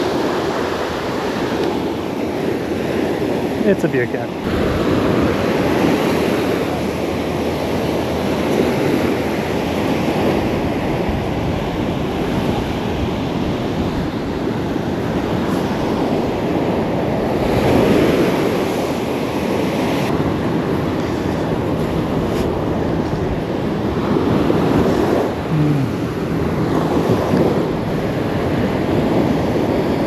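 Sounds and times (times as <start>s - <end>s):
surf washing onto beach: 0.0s - 30.0s
wind on microphone: 0.0s - 30.0s.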